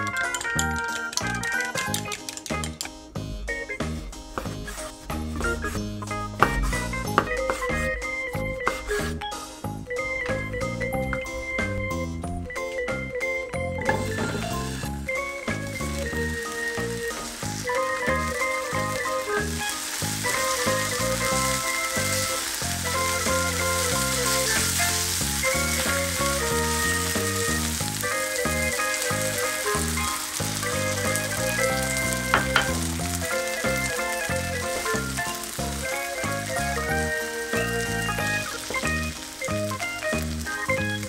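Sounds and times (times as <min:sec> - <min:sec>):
food sizzling in frying pan: 0:00.0 - 0:41.0
light background music: 0:00.0 - 0:41.0.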